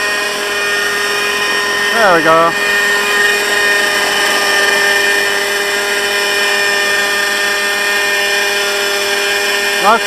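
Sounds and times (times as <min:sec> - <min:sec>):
model helicopter engine whine: 0:00.0 - 0:10.0.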